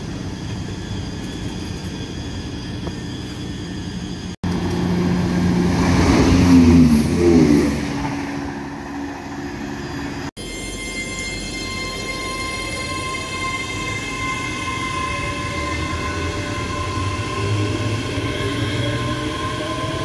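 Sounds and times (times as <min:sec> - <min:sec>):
train passing at speed: 0:00.0 - 0:20.0
train whine bending in pitch: 0:00.0 - 0:20.0.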